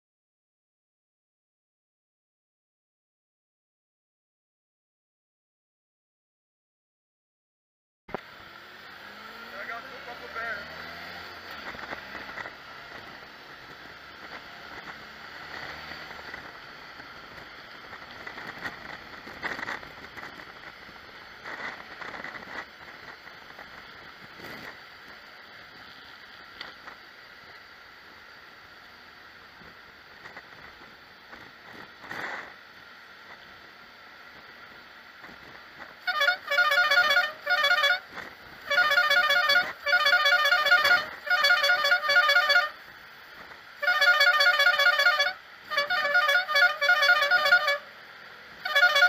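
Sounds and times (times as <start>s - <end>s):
motorcycle road noise: 8.1s - 49.0s.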